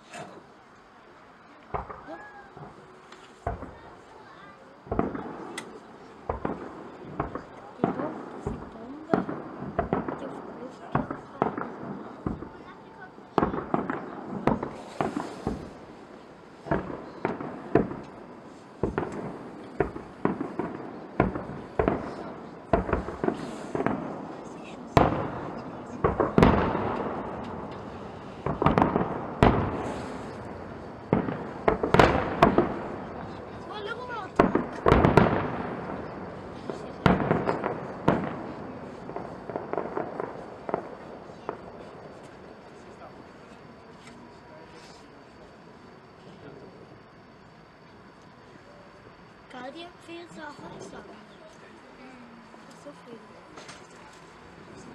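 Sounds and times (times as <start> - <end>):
fireworks crackling: 0.0 - 54.9
fireworks booming: 1.6 - 54.9.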